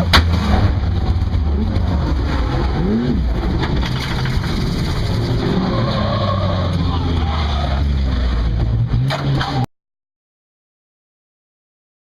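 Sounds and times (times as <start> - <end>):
car engine and road rumble: 0.0 - 9.7.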